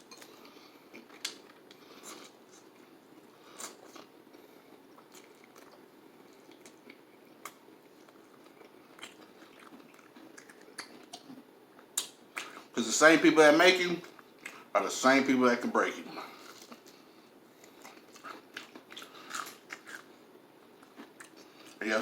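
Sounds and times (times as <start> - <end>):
person chewing food: 0.0 - 12.7, 14.1 - 14.7, 16.1 - 21.8.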